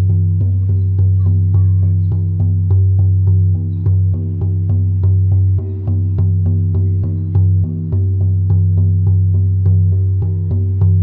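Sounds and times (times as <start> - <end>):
hand drum beating: 0.0 - 11.0.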